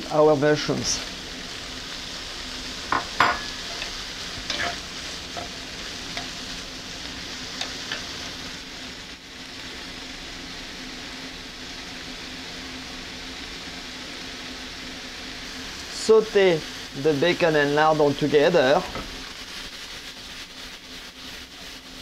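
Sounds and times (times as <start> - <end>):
food sizzling in a skillet: 0.0 - 22.0.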